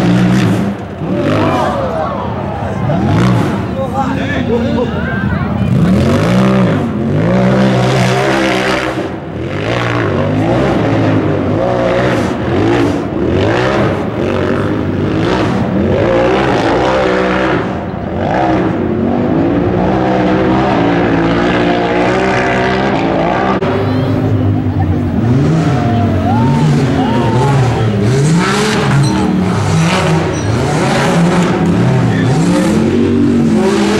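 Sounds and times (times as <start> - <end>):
off-road vehicle engine revving: 0.0 - 33.9.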